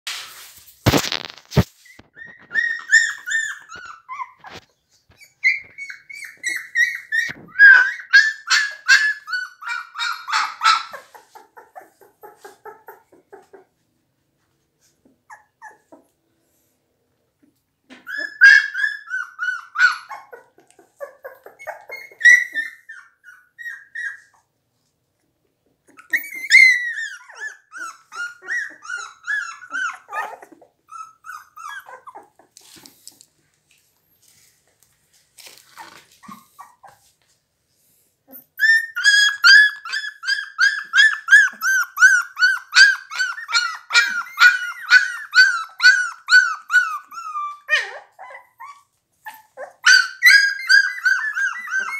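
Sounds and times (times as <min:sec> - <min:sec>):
puppies whimpering and crying: 0:00.9 - 0:13.8, 0:14.8 - 0:16.2, 0:17.4 - 0:24.6, 0:25.8 - 0:33.2, 0:35.4 - 0:37.2, 0:38.3 - 0:51.9.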